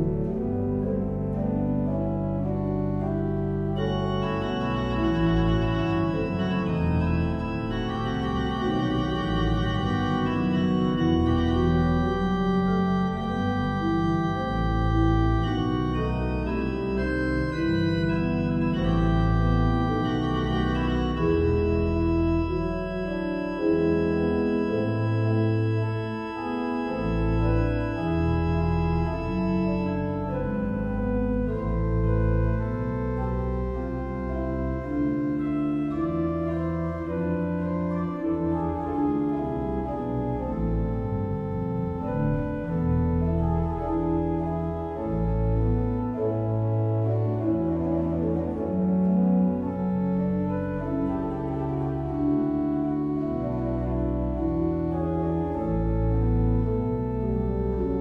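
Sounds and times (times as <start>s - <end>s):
pipe organ playing chords: 0.0s - 58.0s.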